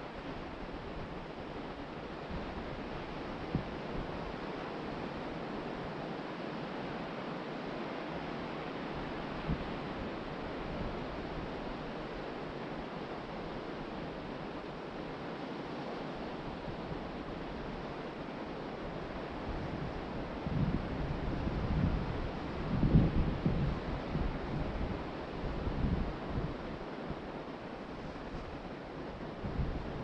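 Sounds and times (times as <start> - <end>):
wind: 0.0 - 30.0.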